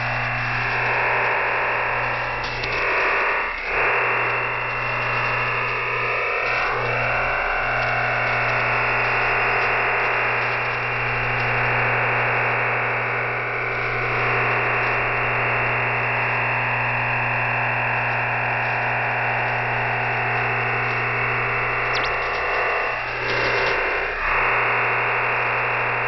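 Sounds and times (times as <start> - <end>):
digital radio signal hiss: 0.0 - 26.0
steady low hum: 0.0 - 26.0.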